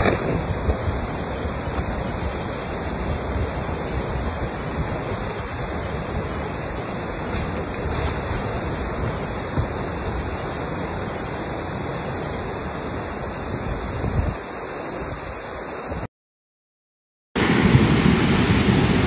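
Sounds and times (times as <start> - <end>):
flood river rushing: 0.0 - 16.1, 17.4 - 19.0.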